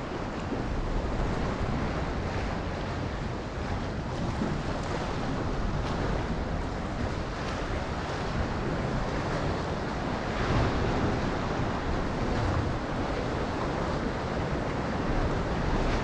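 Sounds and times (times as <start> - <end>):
ocean waves washing: 0.0 - 16.0
wind buffeting microphone: 0.0 - 16.0.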